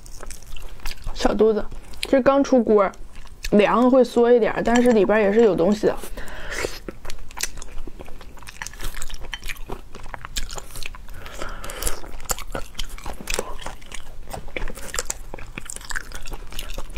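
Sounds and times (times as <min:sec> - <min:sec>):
chewing: 0:00.0 - 0:04.0, 0:04.6 - 0:16.9.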